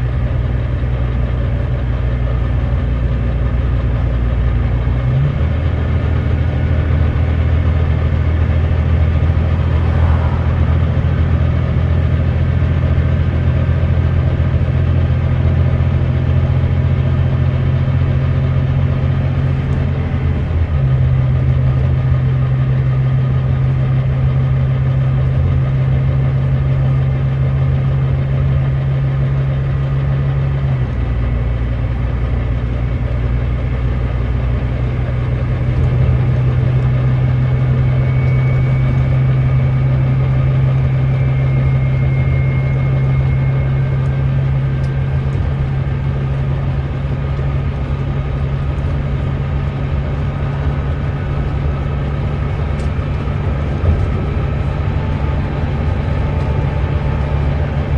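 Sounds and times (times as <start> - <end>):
bus diesel engine under load: 0.0 - 57.9.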